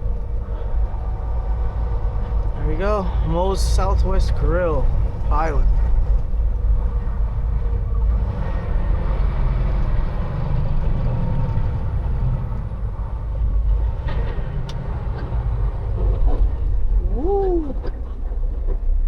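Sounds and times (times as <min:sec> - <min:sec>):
truck diesel engine and road rumble: 0:00.0 - 0:19.0.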